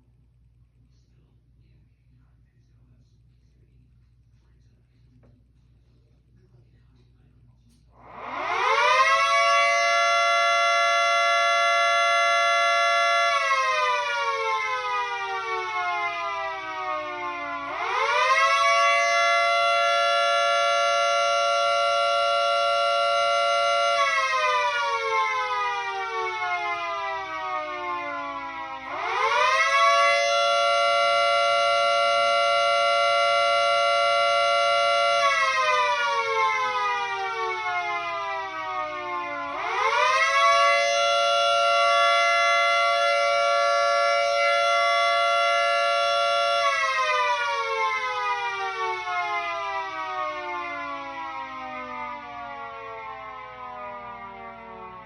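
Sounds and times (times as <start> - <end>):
siren wailing: 8.0 - 55.0.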